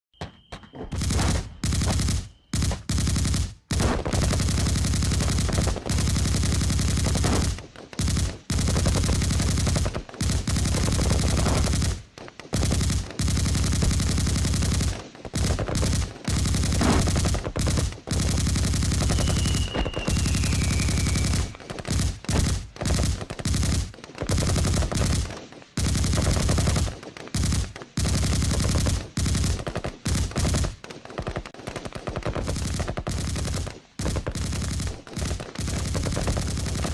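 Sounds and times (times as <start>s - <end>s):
machine gun firing bursts: 0.9s - 36.9s.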